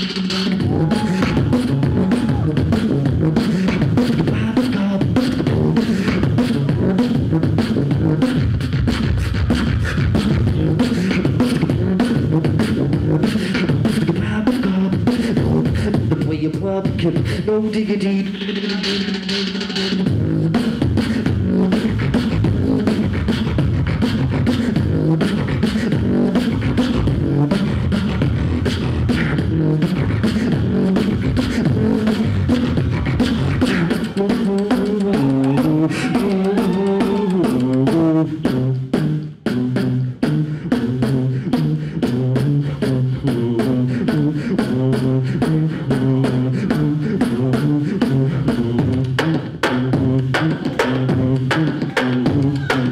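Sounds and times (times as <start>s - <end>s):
person beatboxing: 0.0s - 52.9s.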